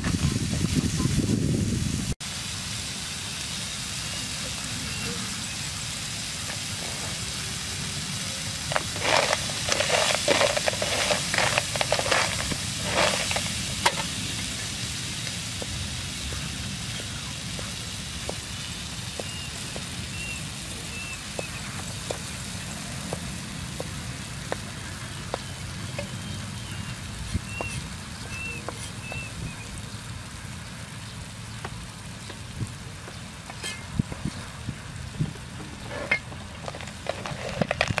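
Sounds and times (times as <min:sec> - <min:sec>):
cockles sizzling in a frying pan: 0:00.0 - 0:38.0.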